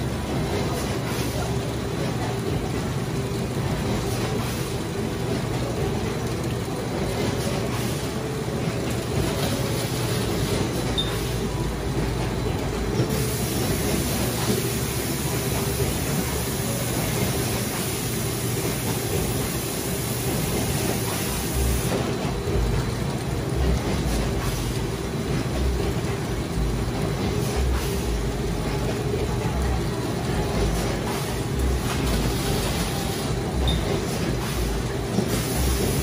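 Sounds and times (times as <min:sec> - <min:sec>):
can filling line running: 0:00.0 - 0:36.0.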